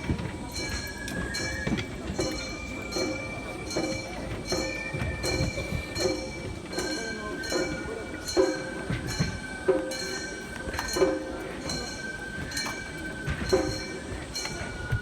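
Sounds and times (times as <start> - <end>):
bamboo flute melody: 0.0 - 15.0.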